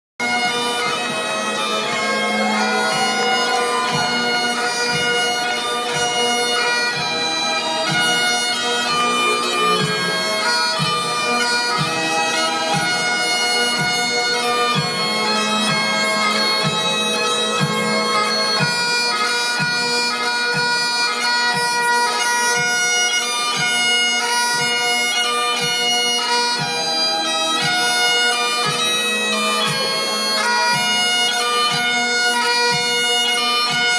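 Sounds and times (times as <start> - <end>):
bagpipes playing tune: 0.2 - 33.9.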